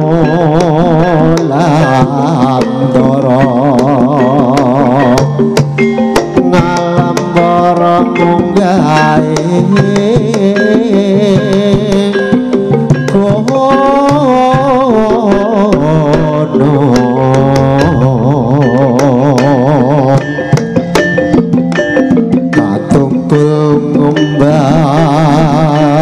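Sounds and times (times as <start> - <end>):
hand drum beat: 0.0 - 26.0
wavering melody: 0.0 - 26.0.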